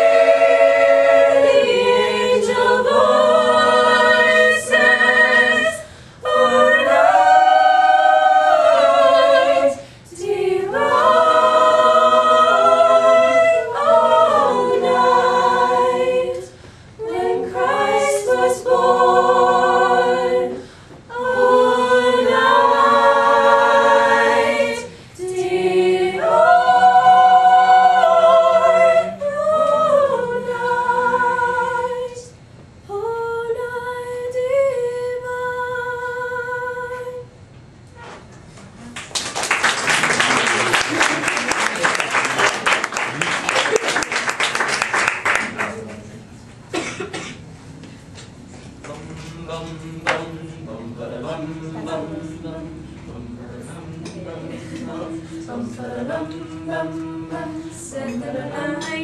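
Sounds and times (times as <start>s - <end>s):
mixed choir singing a cappella: 0.0s - 37.3s, 48.8s - 59.0s.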